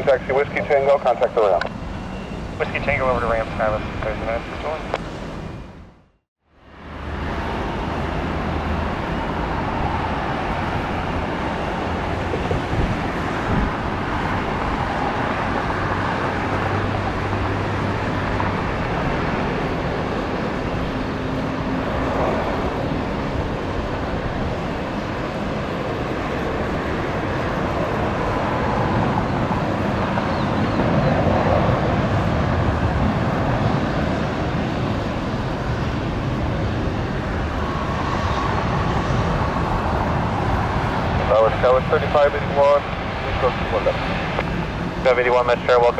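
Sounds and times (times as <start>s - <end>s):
jet engine rushing: 0.0s - 5.7s, 6.6s - 45.9s.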